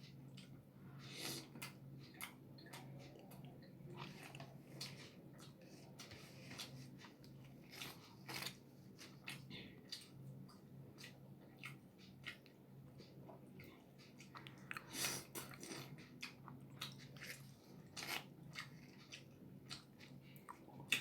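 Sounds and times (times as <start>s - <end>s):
chewing food: 0.1s - 21.0s.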